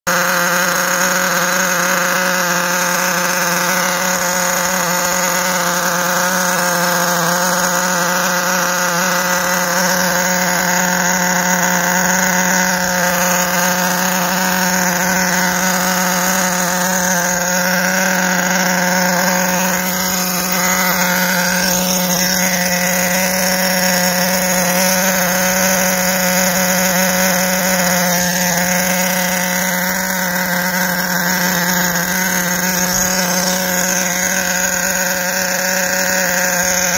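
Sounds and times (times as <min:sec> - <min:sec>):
model nitro engine running: 0:00.0 - 0:36.9.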